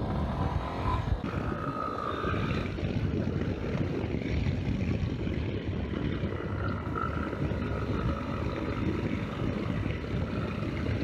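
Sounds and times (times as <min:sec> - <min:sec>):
motorcycle engine cruising: 0:00.0 - 0:11.0
wind over microphone: 0:00.0 - 0:11.0.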